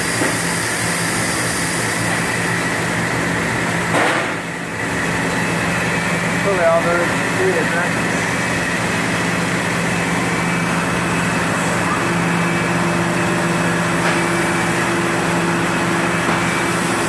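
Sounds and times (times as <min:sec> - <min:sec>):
industrial machinery humming: 0:00.0 - 0:17.0.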